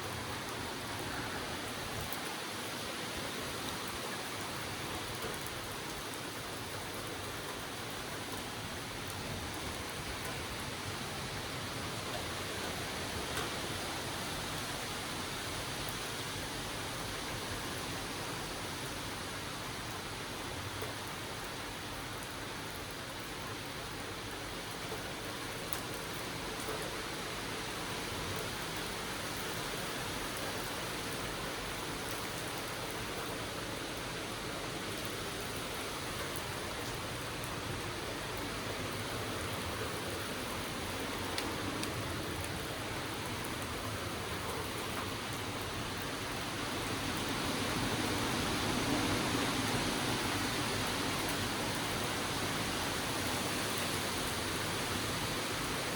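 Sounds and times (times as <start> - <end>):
rain and wind hiss: 0.0 - 55.9.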